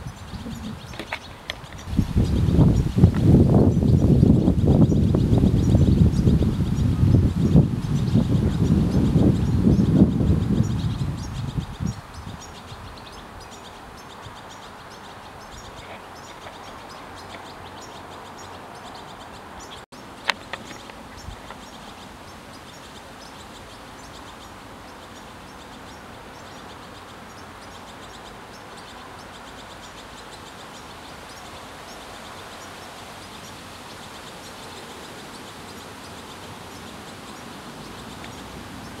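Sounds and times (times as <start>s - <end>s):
outdoor background noise: 0.0s - 39.0s
small birds chirping: 0.0s - 39.0s.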